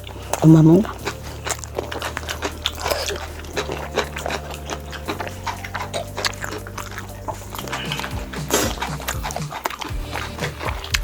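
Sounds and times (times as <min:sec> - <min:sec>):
chewing food: 0:00.0 - 0:11.0
low hum: 0:00.0 - 0:11.0
mouth clicks: 0:00.0 - 0:11.0.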